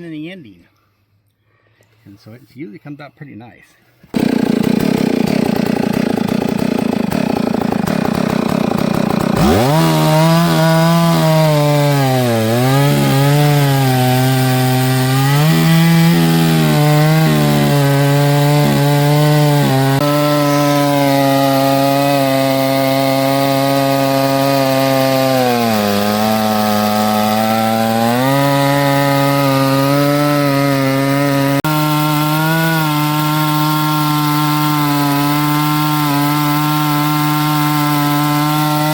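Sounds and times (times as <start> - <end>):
chainsaw cutting log: 4.1 - 38.9.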